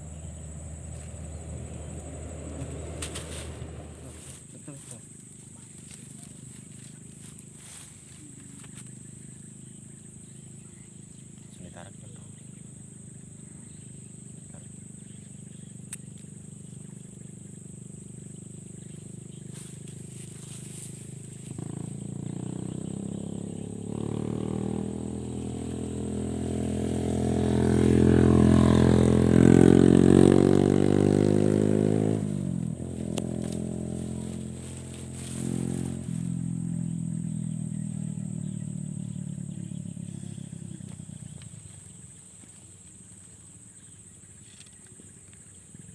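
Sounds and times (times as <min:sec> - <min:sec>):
low pulsing drone: 0:00.0 - 0:04.6, 0:09.0 - 0:42.1
motor engine humming: 0:00.0 - 0:43.9
insects buzzing high pitched: 0:00.0 - 0:45.9.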